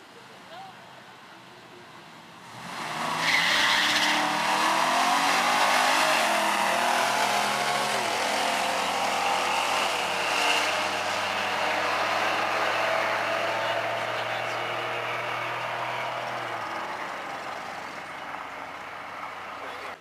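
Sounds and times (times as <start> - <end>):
drag cars accelerating: 2.4 - 20.0.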